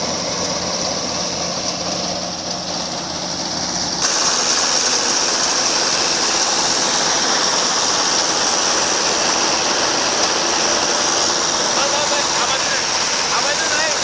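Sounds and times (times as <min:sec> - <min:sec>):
combine harvester engine and threshing: 0:00.0 - 0:14.0.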